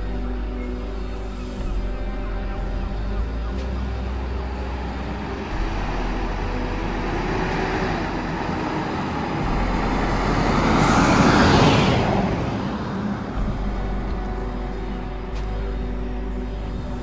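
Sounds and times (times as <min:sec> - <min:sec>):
fire engine driving past: 0:00.0 - 0:17.0.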